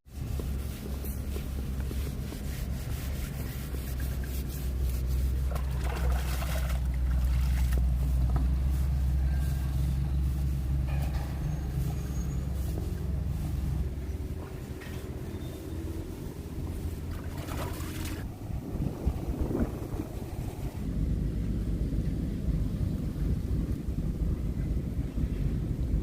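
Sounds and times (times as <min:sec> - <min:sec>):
engine droning: 0:00.1 - 0:26.0.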